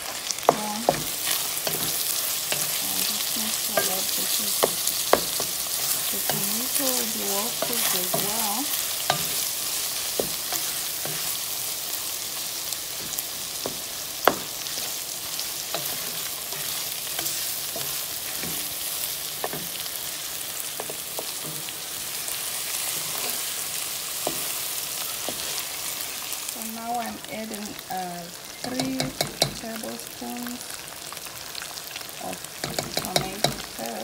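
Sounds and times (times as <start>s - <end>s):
meat and vegetables sizzling: 0.0s - 34.0s.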